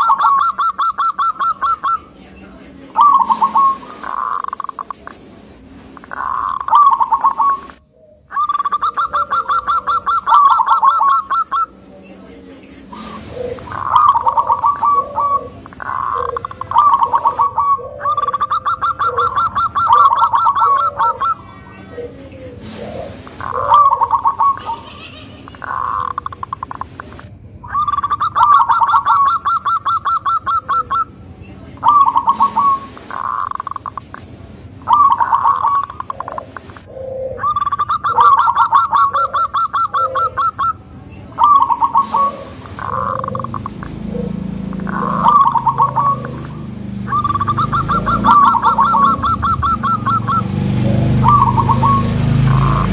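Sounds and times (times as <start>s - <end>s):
dove cooing and trilling: 0.0s - 5.1s, 5.8s - 52.9s.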